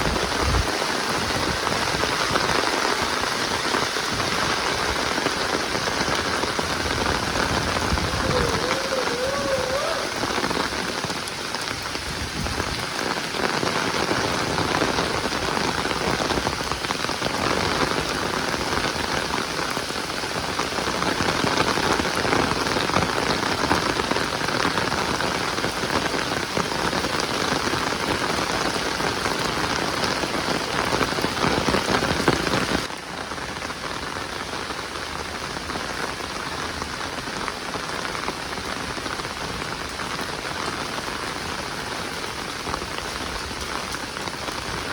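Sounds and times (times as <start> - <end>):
heavy rain patter: 0.0 - 44.9.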